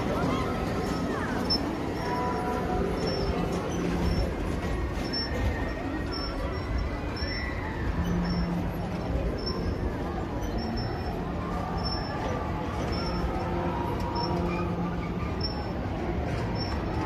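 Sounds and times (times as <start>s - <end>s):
faint distant voices: 0.0s - 17.0s
low machine hum: 0.0s - 17.0s.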